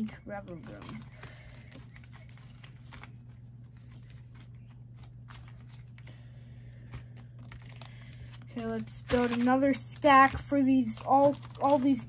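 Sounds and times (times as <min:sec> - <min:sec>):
steady low hum: 0:00.0 - 0:12.0
trading cards rustling and tapping: 0:00.3 - 0:12.0.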